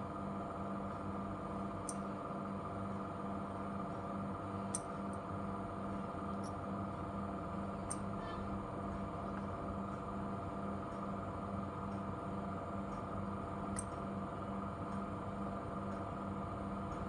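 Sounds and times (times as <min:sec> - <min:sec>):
electrical hum with pulsing tone: 0:00.0 - 0:17.0.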